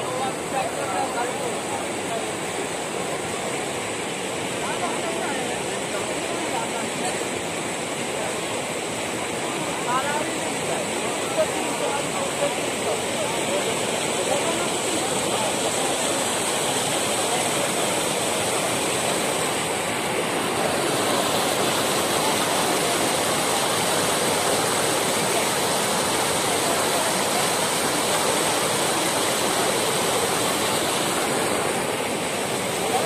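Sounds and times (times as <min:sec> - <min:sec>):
floodwater rushing over causeway: 0:00.0 - 0:33.0.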